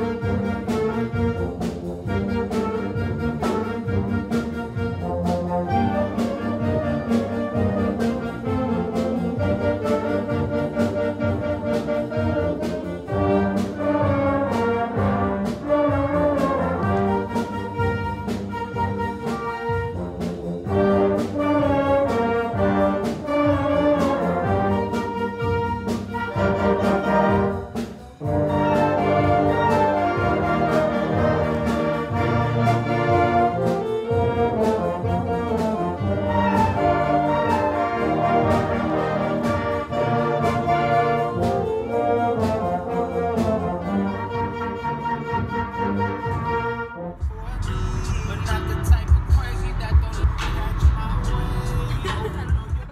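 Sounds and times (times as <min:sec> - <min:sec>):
concert band playing: 0:00.0 - 0:52.9.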